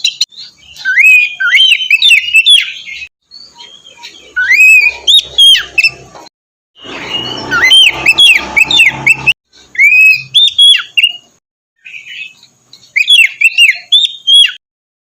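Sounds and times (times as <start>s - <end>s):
bird singing whistled phrases: 0.0s - 6.0s, 6.8s - 14.6s.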